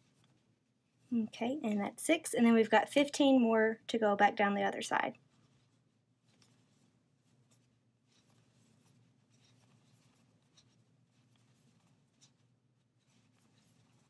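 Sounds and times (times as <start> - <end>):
crochet hook rustling yarn: 0.0 - 2.6, 4.3 - 14.0.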